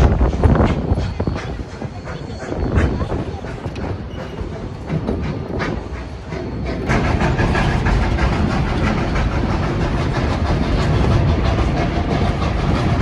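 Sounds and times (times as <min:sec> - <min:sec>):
train cars rattling: 0:00.0 - 0:13.0
train wheels on rails: 0:00.0 - 0:13.0.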